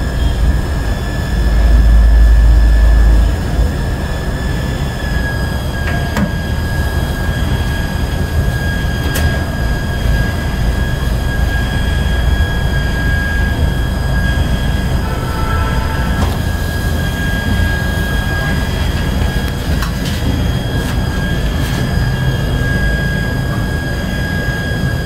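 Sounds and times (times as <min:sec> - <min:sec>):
high-pitched whine: 0:00.0 - 0:25.0
machinery low rumble: 0:00.0 - 0:25.0.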